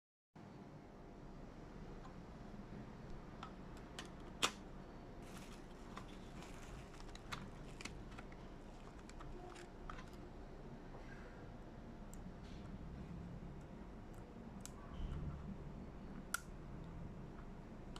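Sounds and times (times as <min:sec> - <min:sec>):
faint low hum: 0:00.4 - 0:17.9.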